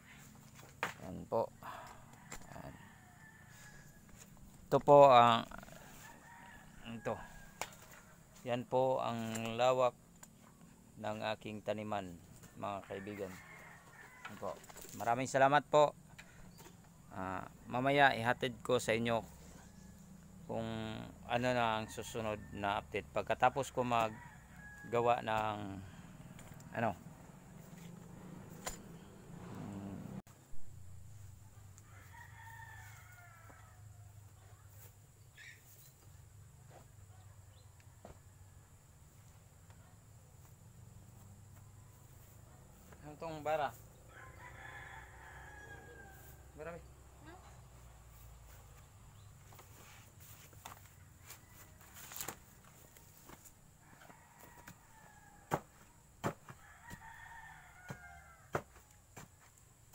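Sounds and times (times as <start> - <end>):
faint rooster crowing: 0.0 - 9.4, 11.4 - 15.2, 16.1 - 59.9.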